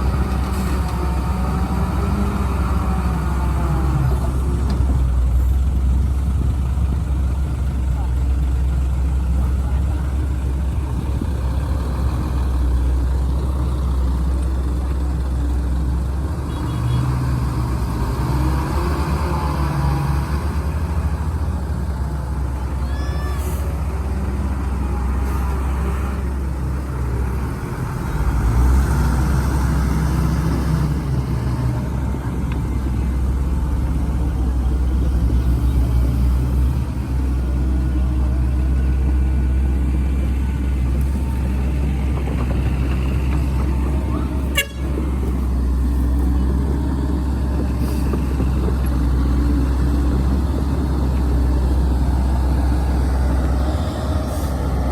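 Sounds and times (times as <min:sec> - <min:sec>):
excavator diesel engine rumbling: 0:00.0 - 0:54.9.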